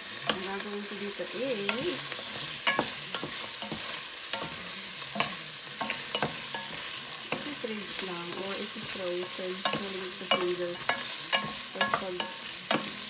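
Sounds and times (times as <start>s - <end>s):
meat and onion sizzling: 0.0s - 13.0s
wooden spoon knocking and scraping pan: 0.2s - 13.0s.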